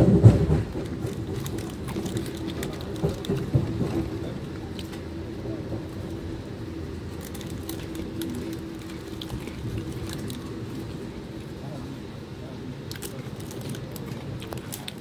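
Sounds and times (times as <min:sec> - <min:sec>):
steady hum: 0:00.0 - 0:15.0
train coach low rumble: 0:00.0 - 0:15.0.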